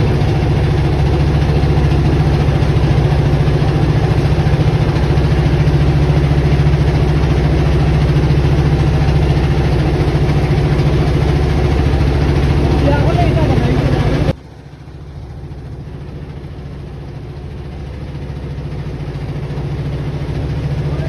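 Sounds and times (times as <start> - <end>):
engine idling with low drone: 0.0 - 21.0.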